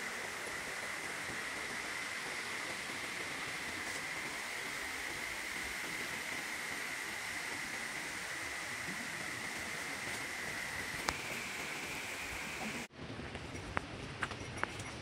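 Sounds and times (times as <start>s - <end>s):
mountain stream rushing: 0.0s - 12.9s.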